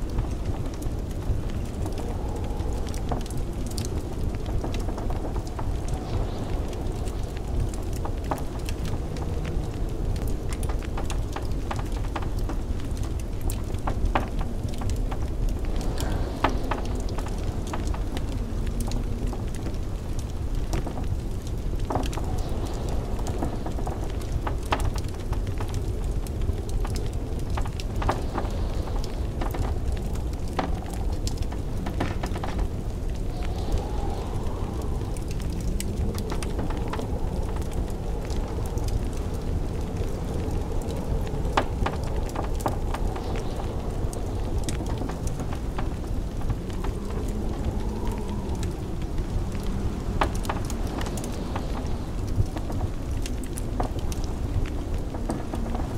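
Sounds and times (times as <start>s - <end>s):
low rumble of blizzard wind: 0.0s - 55.9s
wood fire crackling and popping: 0.0s - 55.9s.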